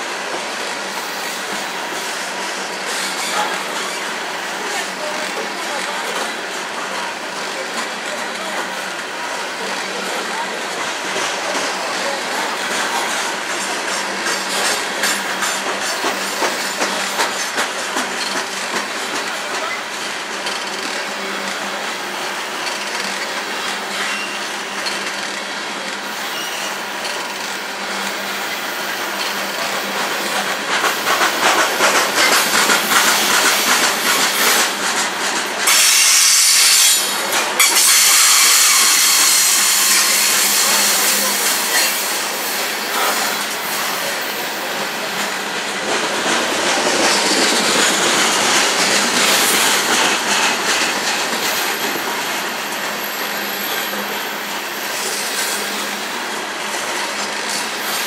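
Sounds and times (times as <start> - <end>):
train rumble: 0.0 - 58.0
train wheels clicking over rail joints: 0.2 - 56.1.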